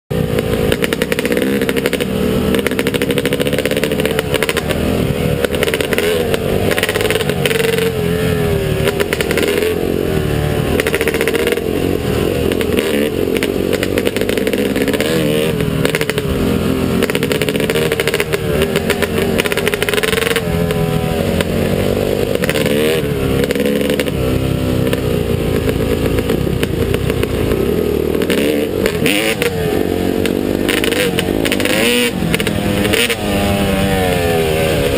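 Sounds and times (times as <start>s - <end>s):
motocross bike engine revving: 0.1s - 34.9s
steady rush of noise: 0.1s - 34.9s.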